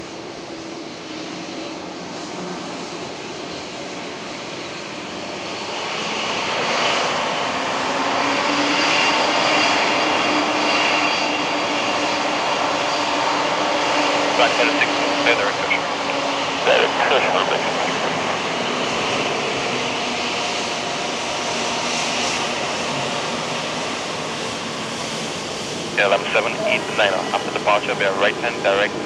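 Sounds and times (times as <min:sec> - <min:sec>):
jet engines humming and whining: 0:00.0 - 0:29.0.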